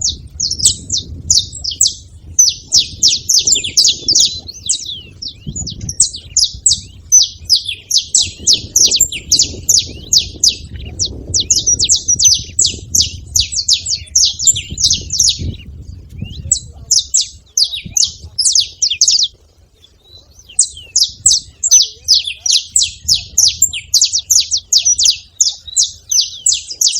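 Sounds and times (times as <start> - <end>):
finches calling high chips: 0.0 - 26.9.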